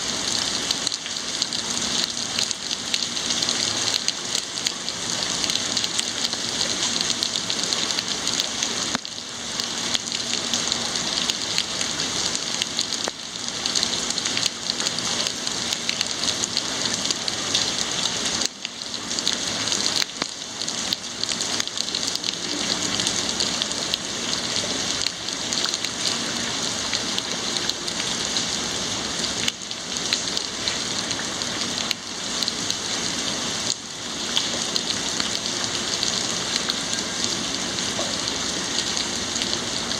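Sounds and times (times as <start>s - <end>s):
heavy rain spattering: 0.0s - 39.9s.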